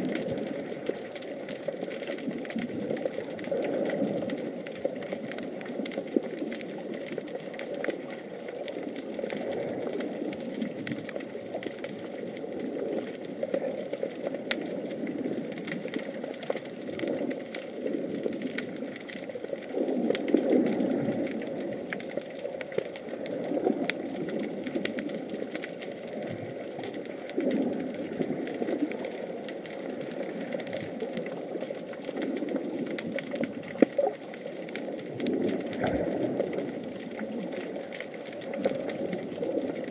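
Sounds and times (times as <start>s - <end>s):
faint underwater clicks: 0.0s - 39.9s
underwater rush of water: 0.0s - 39.9s.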